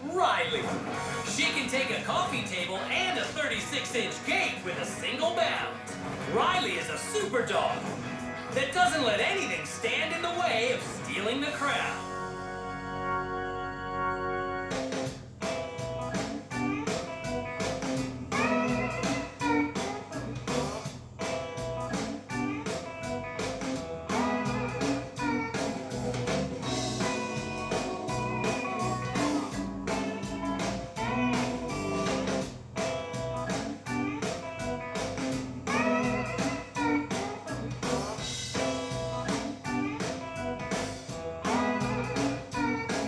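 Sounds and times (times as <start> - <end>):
blues-rock guitar music with drums: 0.0 - 43.0.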